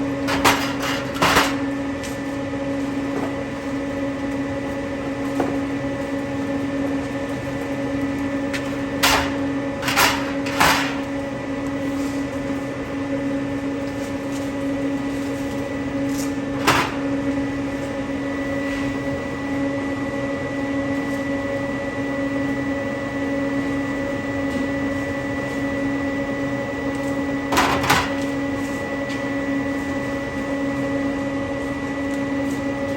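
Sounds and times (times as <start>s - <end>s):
vending machine humming: 0.0s - 32.9s.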